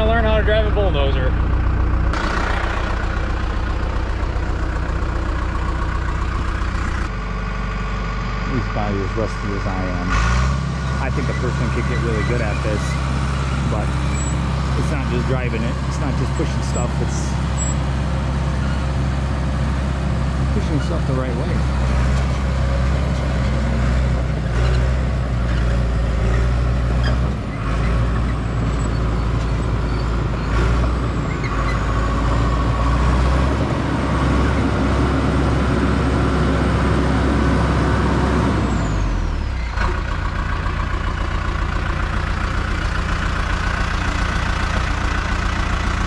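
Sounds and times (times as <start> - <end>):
dozer diesel engine running: 0.0 - 46.0.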